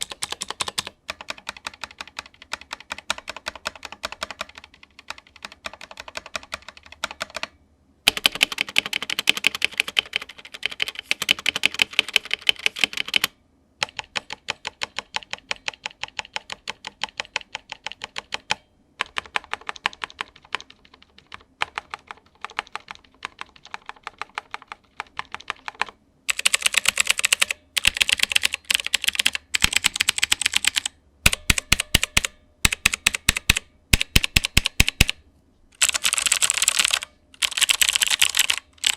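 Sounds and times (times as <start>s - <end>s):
typing on clicky mechanical keyboard: 0.0s - 35.2s, 35.8s - 38.9s.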